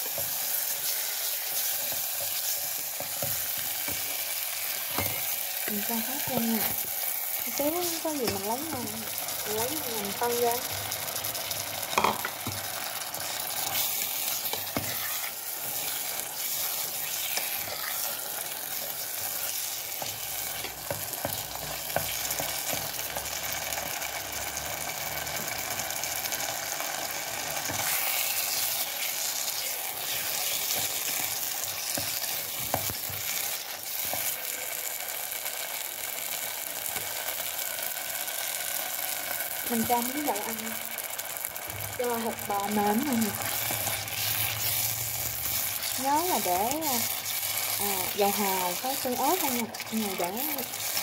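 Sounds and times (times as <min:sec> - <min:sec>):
beef sizzling in a pot: 0:00.0 - 0:51.0.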